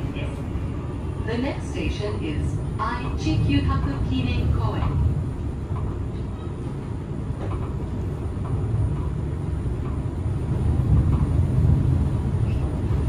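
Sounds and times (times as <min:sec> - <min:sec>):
maglev train rumble and hum: 0:00.0 - 0:13.0.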